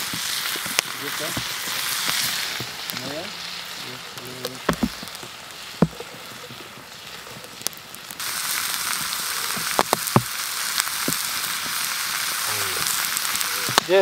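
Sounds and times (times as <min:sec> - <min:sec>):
onions sizzling in a frying pan: 0:00.0 - 0:14.0.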